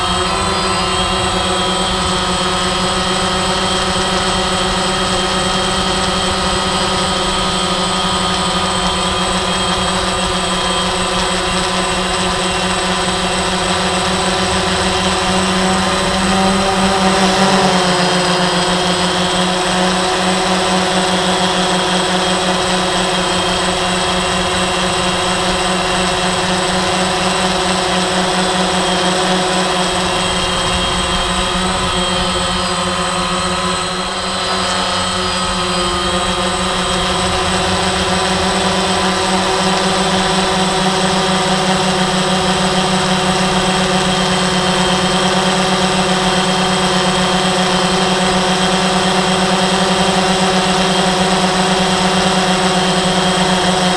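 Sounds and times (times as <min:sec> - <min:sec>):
drone propellers whining: 0:00.0 - 0:53.9.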